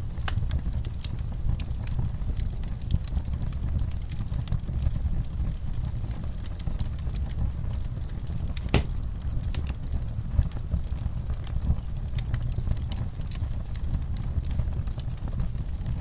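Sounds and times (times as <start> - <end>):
fire crackles and pops: 0.0 - 16.0
wood fire rumbling: 0.0 - 16.0.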